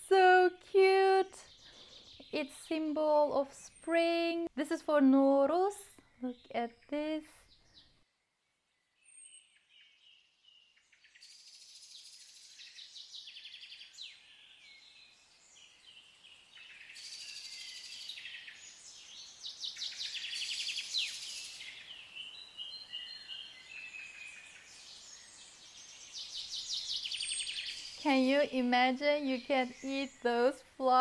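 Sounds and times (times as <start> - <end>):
songbirds chirping and singing: 0.1 - 31.0.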